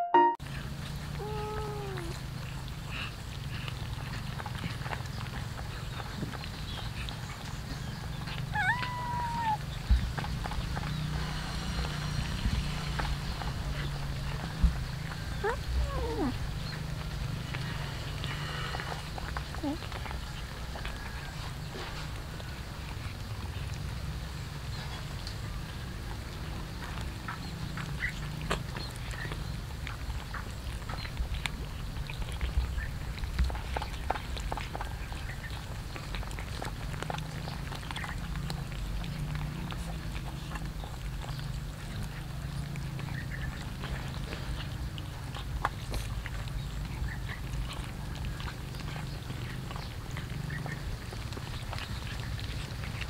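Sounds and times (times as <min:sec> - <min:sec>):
cats chewing and licking: 0:00.4 - 0:53.0.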